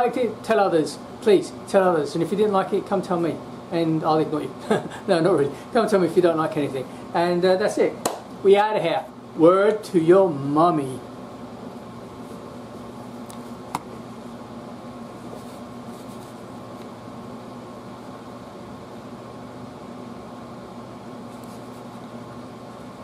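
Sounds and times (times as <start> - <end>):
air conditioner humming: 0.0 - 23.0.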